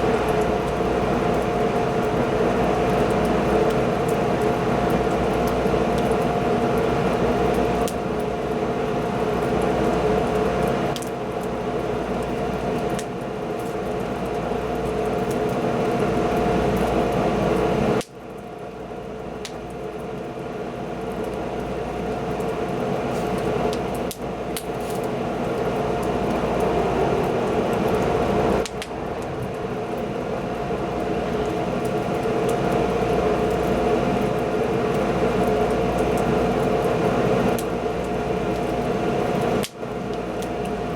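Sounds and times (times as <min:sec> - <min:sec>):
fire crackles: 0:00.0 - 0:40.9
wood fire rushing hum: 0:00.0 - 0:40.9.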